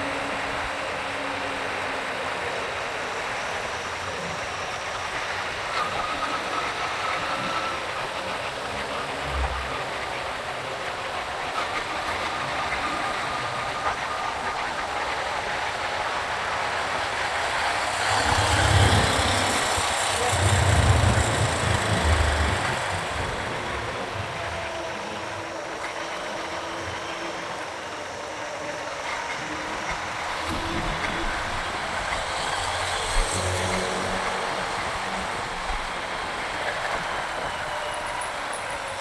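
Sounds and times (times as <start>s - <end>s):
motorcycle engine and tyre noise: 0.0s - 39.0s
wind noise: 0.0s - 39.0s.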